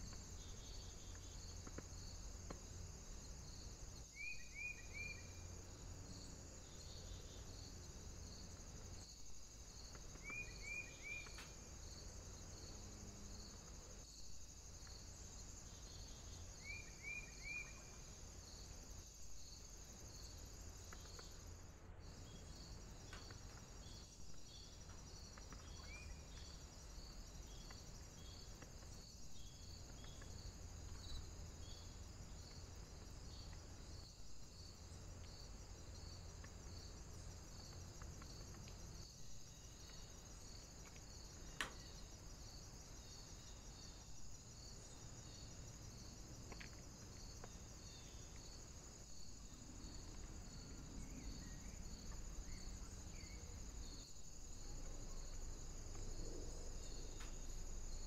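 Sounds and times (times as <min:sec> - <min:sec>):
faint insect trill: 0:00.0 - 0:58.0.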